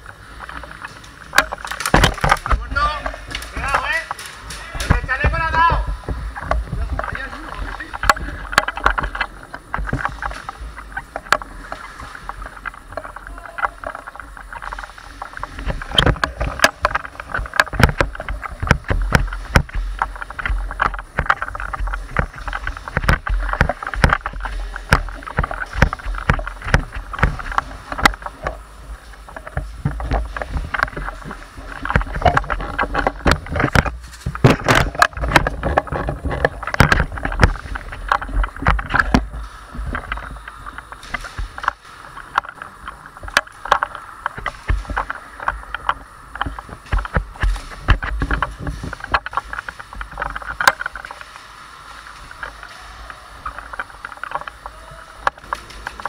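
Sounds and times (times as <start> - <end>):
knocks and clicks: 0.0 - 51.3
gear rustling and rubbing: 0.0 - 56.0.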